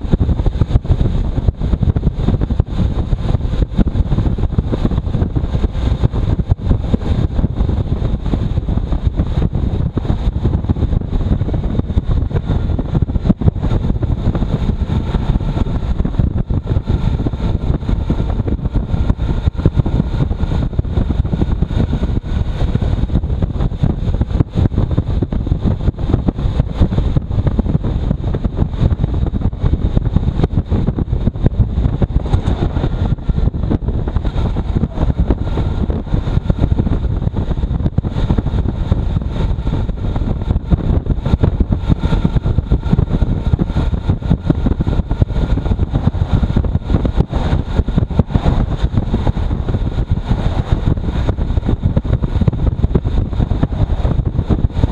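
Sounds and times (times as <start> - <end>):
motorcycle engine running: 0.0 - 54.9
wind rumble on microphone: 0.0 - 54.9.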